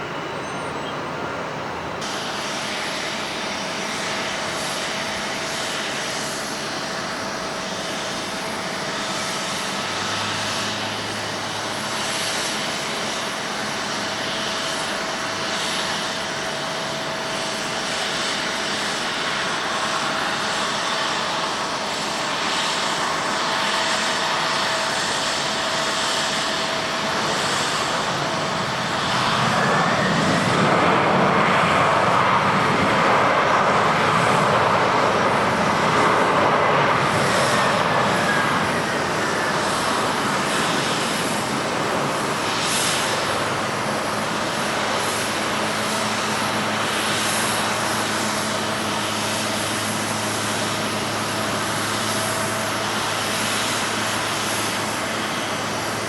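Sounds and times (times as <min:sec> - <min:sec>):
jet engines rumbling and whining: 0:00.0 - 0:56.0
rising jet whine: 0:00.0 - 0:56.0.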